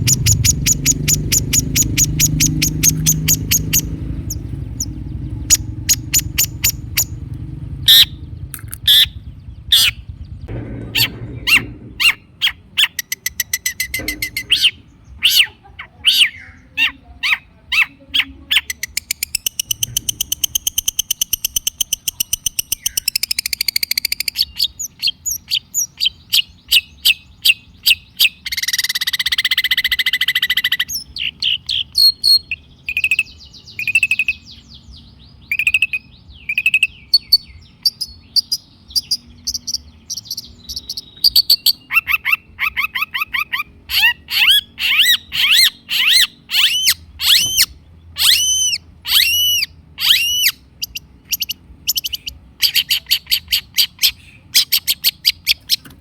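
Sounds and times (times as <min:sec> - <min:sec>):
shrike singing: 0:00.0 - 0:55.9.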